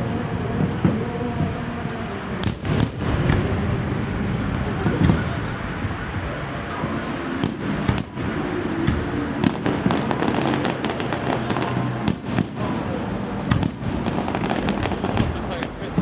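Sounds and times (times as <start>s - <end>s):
fireworks popping and crackling: 0.0s - 16.0s.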